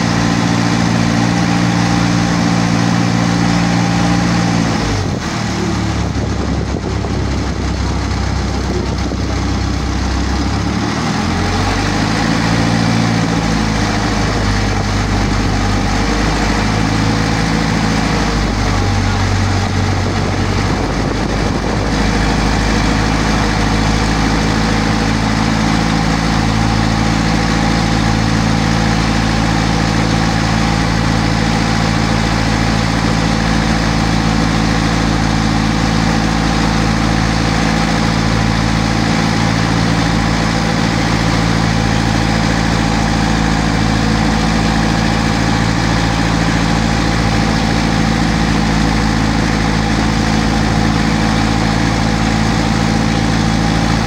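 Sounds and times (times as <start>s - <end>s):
boat engine low drone: 0.0s - 54.0s.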